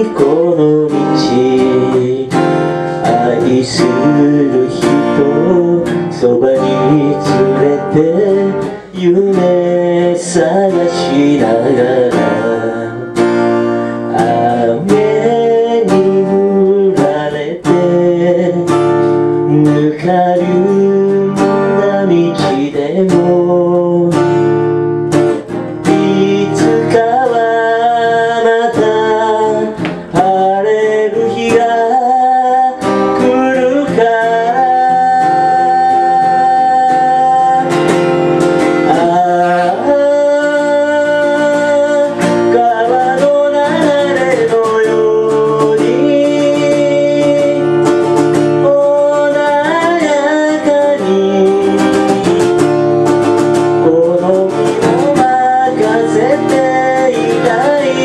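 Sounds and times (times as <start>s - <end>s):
man singing ballad: 0.0s - 58.0s
strummed acoustic guitar: 0.0s - 58.0s.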